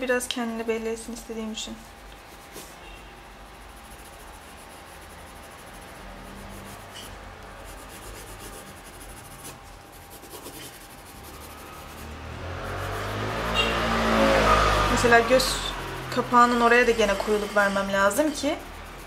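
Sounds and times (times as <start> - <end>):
pencil scratching on paper: 1.8 - 19.0.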